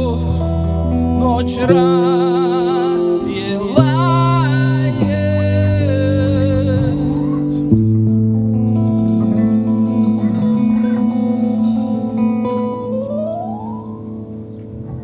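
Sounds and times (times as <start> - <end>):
electric guitar chords: 0.0 - 15.0
live rock band playing: 0.0 - 15.0.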